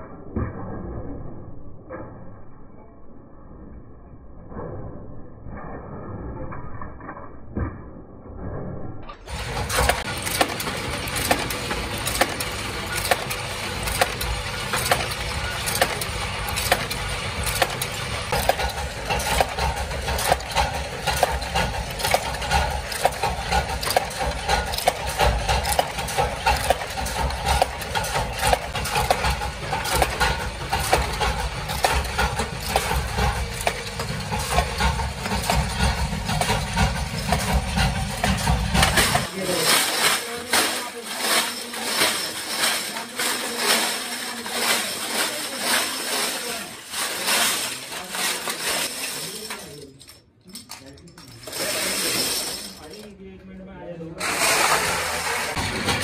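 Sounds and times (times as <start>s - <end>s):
metal-forming machinery clattering: 4.4s - 53.2s, 54.2s - 56.0s.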